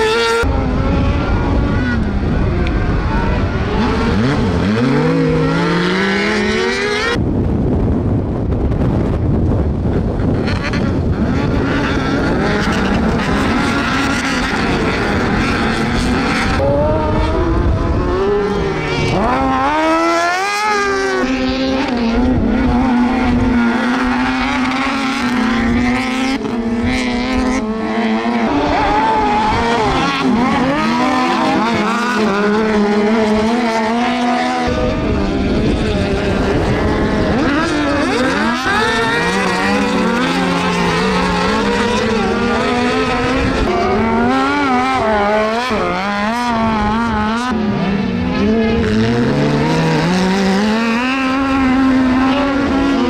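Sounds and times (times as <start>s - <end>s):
buggy engines revving: 0.0s - 53.0s.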